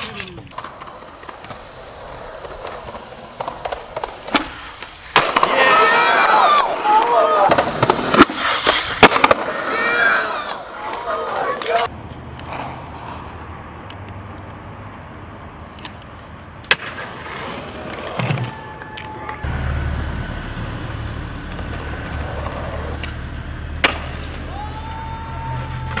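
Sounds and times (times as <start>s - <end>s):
skateboard clacks: 0.0s - 14.0s, 15.7s - 19.5s, 21.4s - 26.0s
skateboard wheels rolling on concrete: 0.0s - 26.0s.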